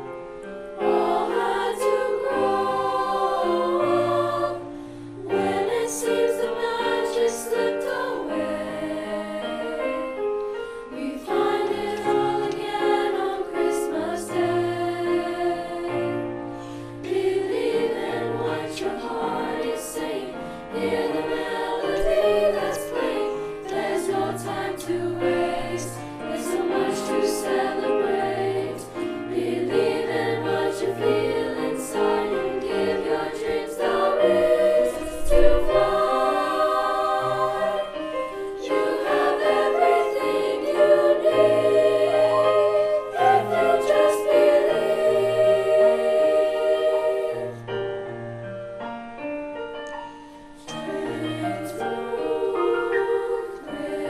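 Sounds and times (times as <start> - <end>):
choir singing: 0.0 - 48.5, 50.1 - 54.0.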